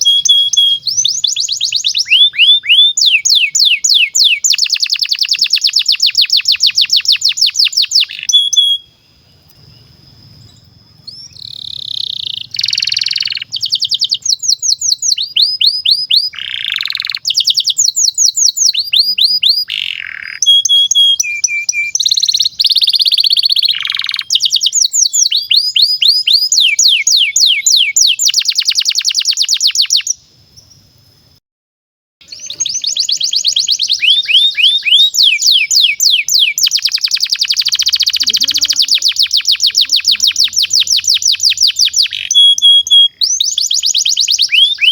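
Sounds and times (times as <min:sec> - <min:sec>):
canary singing trills: 0:00.0 - 0:30.9, 0:32.2 - 0:44.9.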